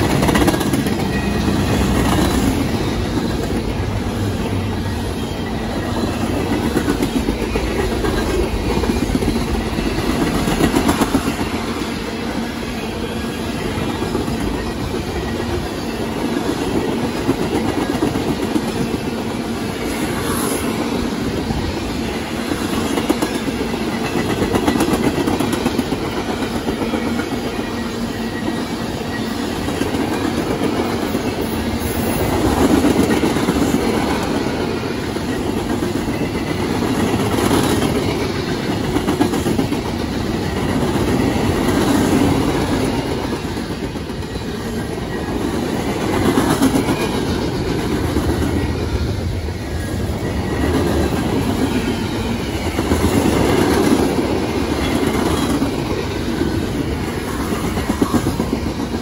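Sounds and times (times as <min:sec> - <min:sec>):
train wheels rattling on rail: 0:00.0 - 0:59.0.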